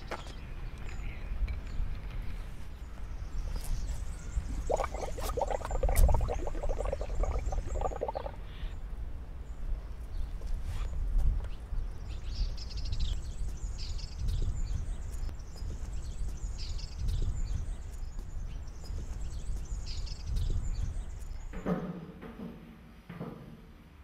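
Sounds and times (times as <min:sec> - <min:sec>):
small birds chirping: 0:00.0 - 0:08.8, 0:09.4 - 0:21.7
low rumbling outdoor background: 0:00.0 - 0:22.4.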